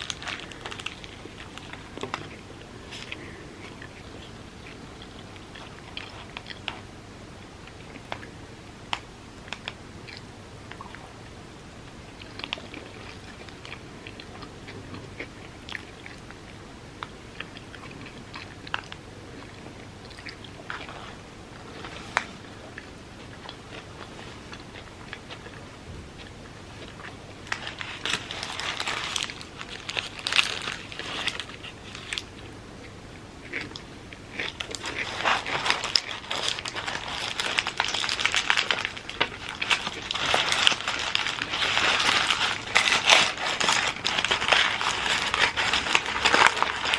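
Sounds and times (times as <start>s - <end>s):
person chewing food: 0.0s - 11.2s, 12.0s - 46.9s.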